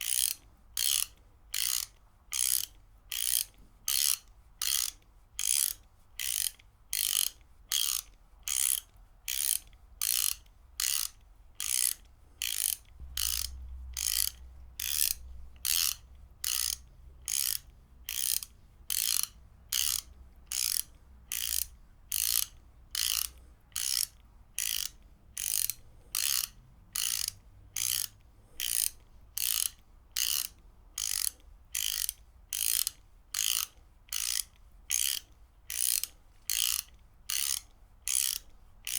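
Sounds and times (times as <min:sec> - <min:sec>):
ratchet wrench clicking: 0:00.0 - 0:38.9.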